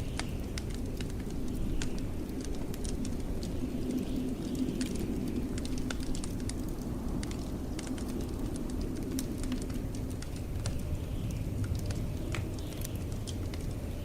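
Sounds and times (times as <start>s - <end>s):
blizzard wind rumble: 0.0s - 14.0s
wood fire crackling: 0.0s - 14.0s.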